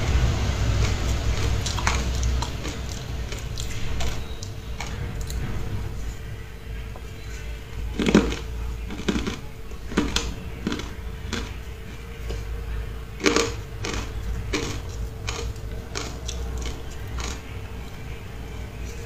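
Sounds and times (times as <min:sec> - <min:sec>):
ice crunching while chewed: 0:00.8 - 0:05.7, 0:07.2 - 0:12.5, 0:13.1 - 0:19.0.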